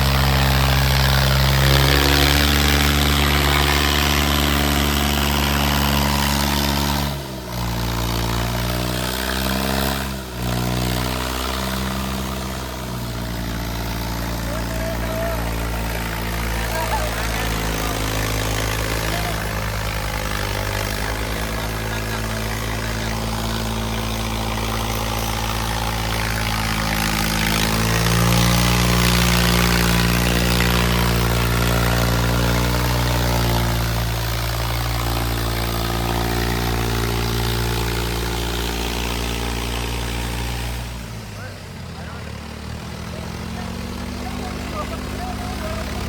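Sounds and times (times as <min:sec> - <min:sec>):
diesel tractor engines revving: 0:00.0 - 0:46.0.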